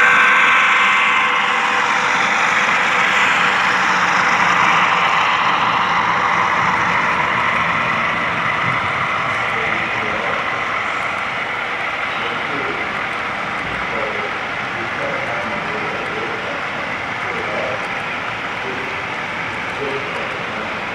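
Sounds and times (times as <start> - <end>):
model train wheels rumbling on rails: 0.0 - 20.9.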